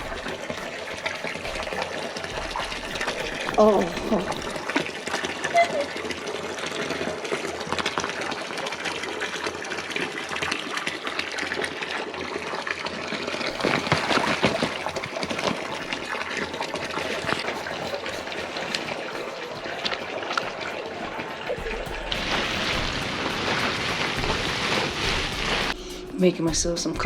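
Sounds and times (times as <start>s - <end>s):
water gushing and splashing: 0.0s - 25.8s.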